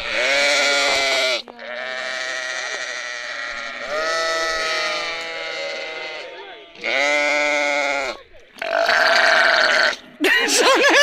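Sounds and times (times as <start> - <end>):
sheep bleating: 0.0 - 10.0.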